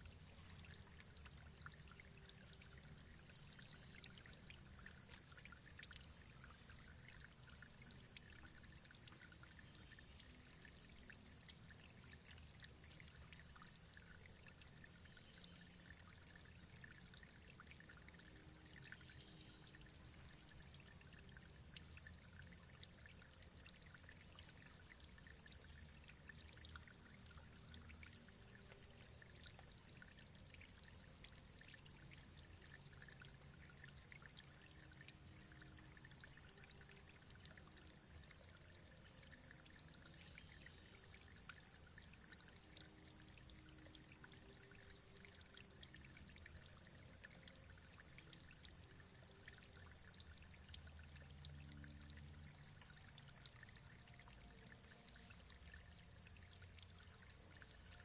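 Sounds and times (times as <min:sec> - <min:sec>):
faint running water trickling: 0:00.0 - 0:58.0.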